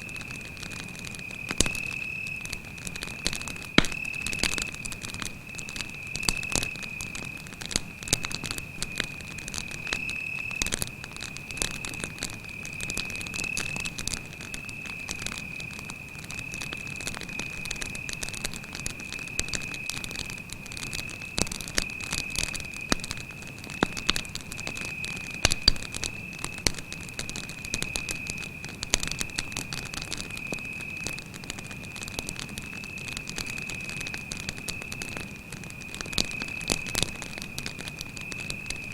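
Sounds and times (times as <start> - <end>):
campfire crackling and popping: 0.0 - 38.9
cricket trilling: 0.0 - 38.9.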